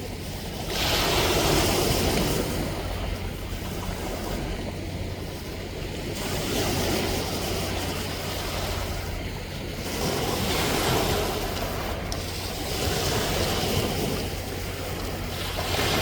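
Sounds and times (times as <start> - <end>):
low wind rumble on microphone: 0.0 - 16.0
sea waves washing onto shore: 0.0 - 16.0.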